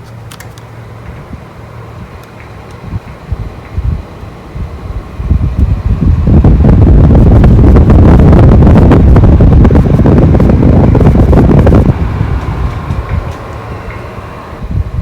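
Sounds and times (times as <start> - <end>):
fan airflow buffeting microphone: 0.0 - 15.0.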